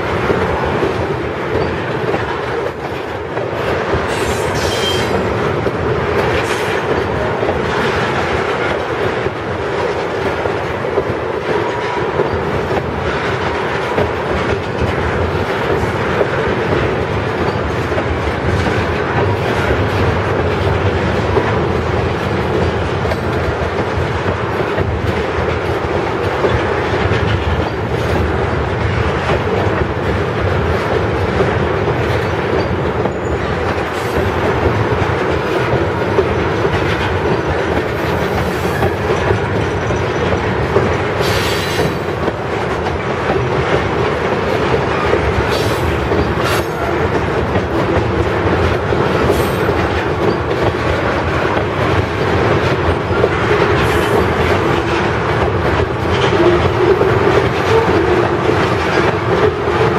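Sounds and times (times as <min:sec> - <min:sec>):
clicking over rail joints: 0:00.0 - 0:59.9
train wheels rumbling on rail: 0:00.0 - 0:59.9.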